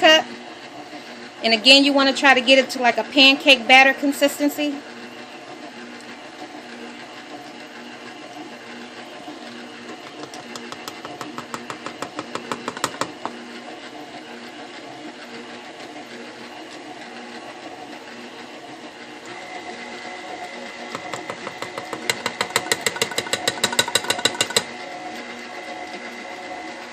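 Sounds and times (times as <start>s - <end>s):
stand mixer running: 4.8s - 26.9s.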